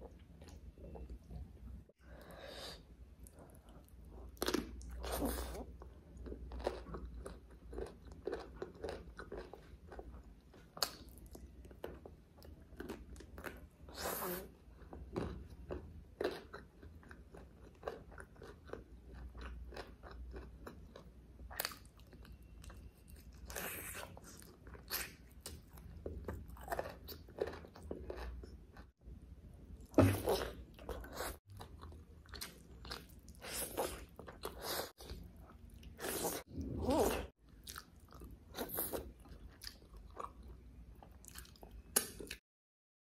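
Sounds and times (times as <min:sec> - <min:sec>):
person chewing food: 0:03.2 - 0:14.0, 0:14.7 - 0:28.9, 0:29.8 - 0:42.4.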